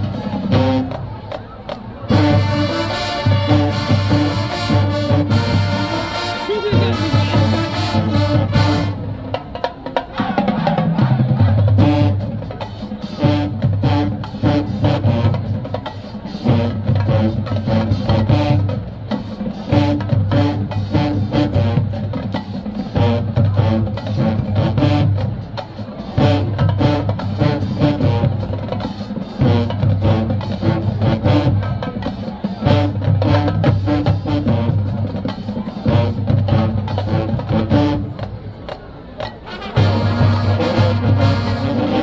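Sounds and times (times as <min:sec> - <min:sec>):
marching band drums: 0:00.0 - 0:42.0.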